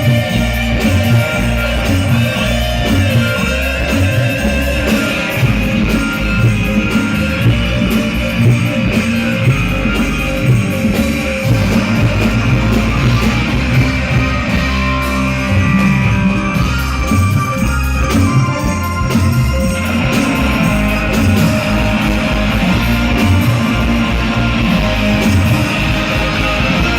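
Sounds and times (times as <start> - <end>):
loud bass-heavy music: 0.0 - 26.9.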